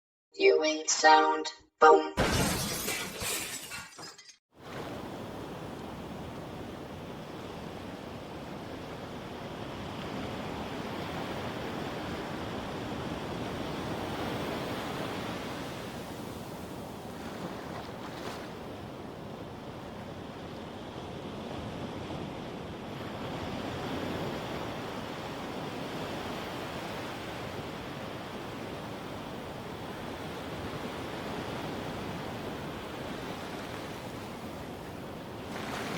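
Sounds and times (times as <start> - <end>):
ocean waves breaking on beach: 4.6 - 35.9.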